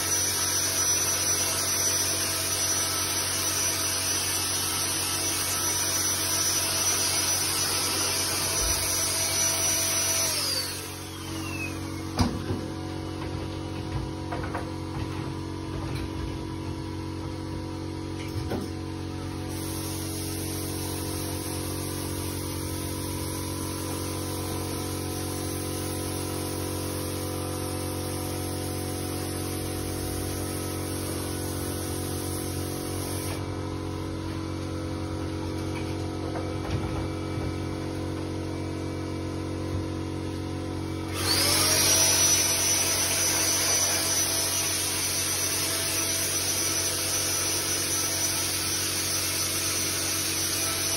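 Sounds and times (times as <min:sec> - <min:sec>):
cordless power tool motor whine: 0:00.0 - 0:15.2, 0:21.4 - 0:50.9.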